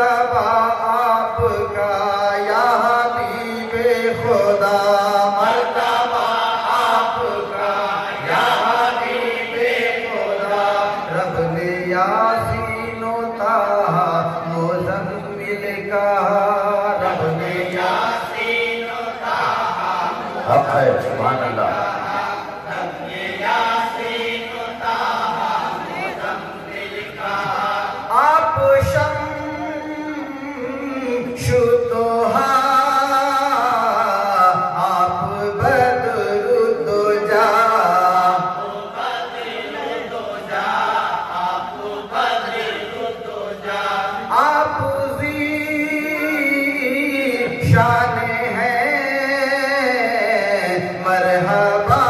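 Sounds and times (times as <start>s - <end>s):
men chanting devotional poem: 0.0s - 52.0s.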